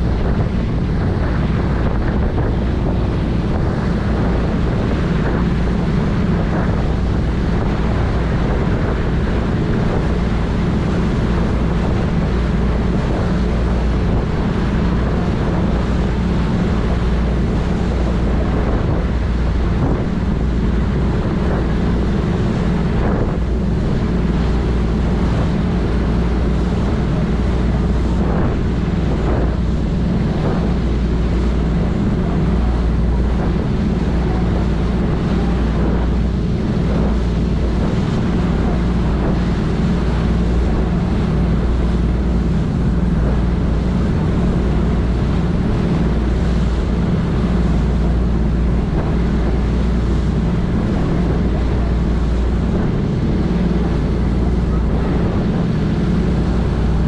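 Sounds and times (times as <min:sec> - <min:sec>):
rushing water of wake: 0:00.0 - 0:57.0
ship engine drone: 0:00.0 - 0:57.0
wind buffeting microphone: 0:00.0 - 0:57.0.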